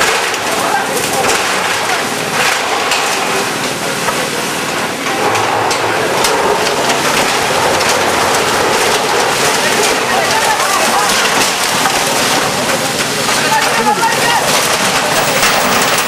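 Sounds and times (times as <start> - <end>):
crackles and knocks: 0.0 - 16.0.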